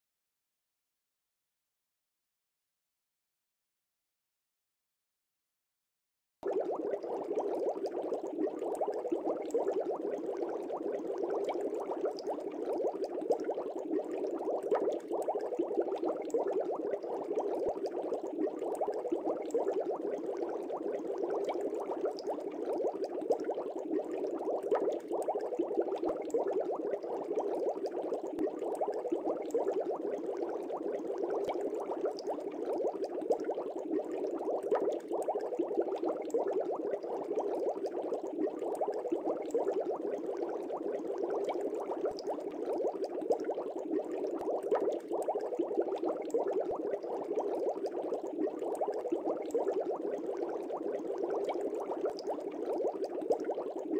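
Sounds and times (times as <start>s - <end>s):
water bubbling: 6.4s - 53.9s.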